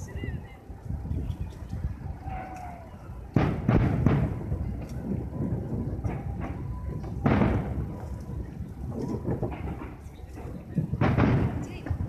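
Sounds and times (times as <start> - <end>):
firework shells booming: 2.2 - 12.0.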